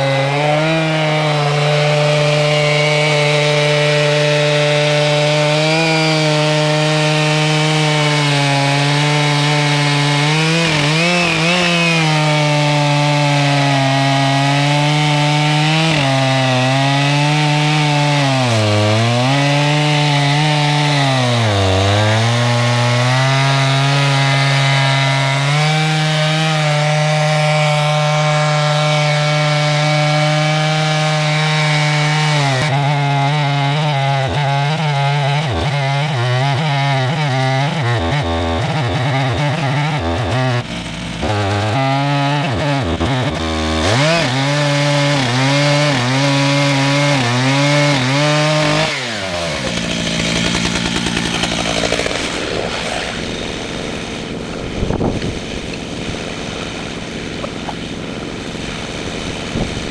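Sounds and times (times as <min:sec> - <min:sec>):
chainsaw cutting through log: 0:00.0 - 0:59.9.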